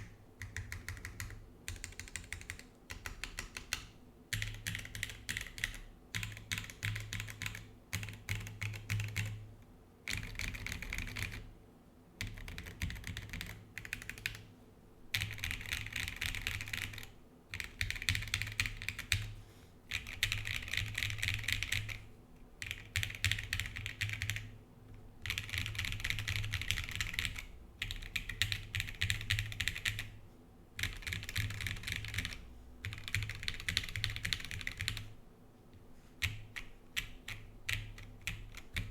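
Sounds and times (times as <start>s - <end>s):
mechanical keyboard typing: 0.0s - 9.4s, 10.1s - 11.4s, 12.2s - 14.4s, 15.1s - 19.3s, 19.9s - 22.0s, 22.6s - 24.5s, 25.2s - 30.1s, 30.8s - 35.1s, 36.2s - 38.9s.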